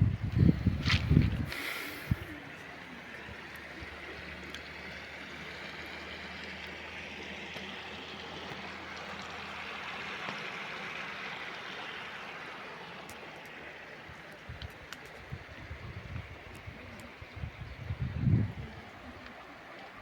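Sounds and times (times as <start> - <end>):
stream water running: 0.0 - 20.0.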